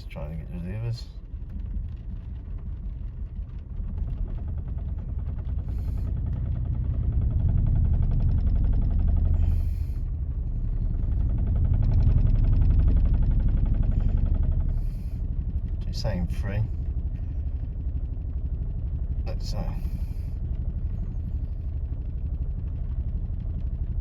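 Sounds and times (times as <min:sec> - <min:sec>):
engine idling roughly with misfire: 0:00.0 - 0:24.0.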